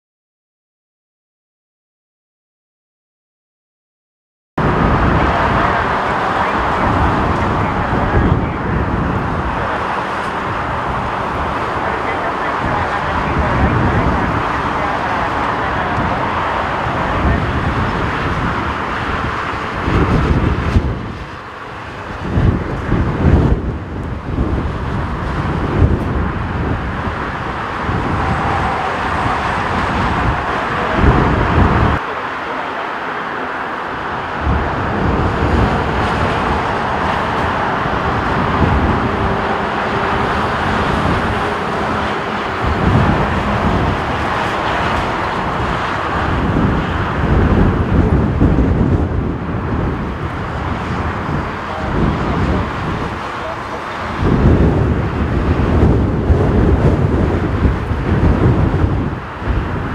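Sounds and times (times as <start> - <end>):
jet airliner engines rushing: 4.6 - 59.9
wind gusts buffeting microphone: 4.6 - 59.9.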